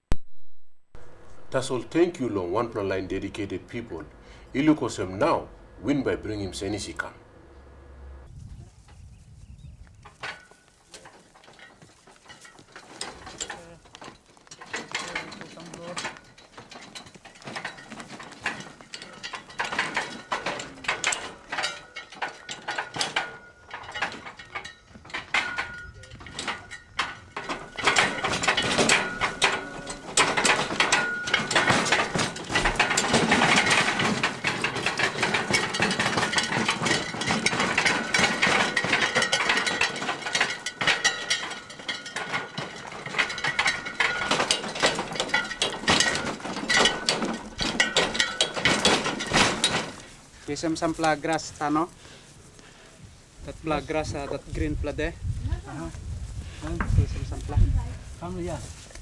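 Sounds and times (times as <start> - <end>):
wooden cart rattling on dirt track: 1.0 - 8.3, 10.0 - 52.2, 53.5 - 59.0.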